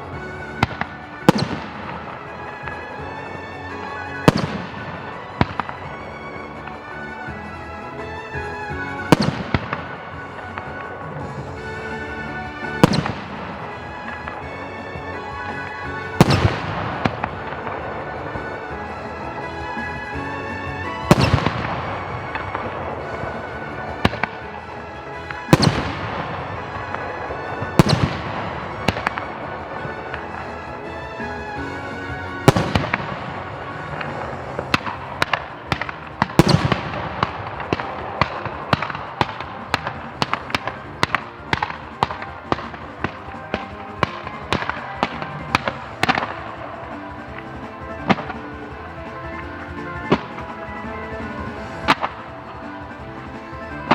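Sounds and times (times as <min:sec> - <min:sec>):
background music: 0:00.0 - 0:53.9
fireworks bursting: 0:00.0 - 0:53.9.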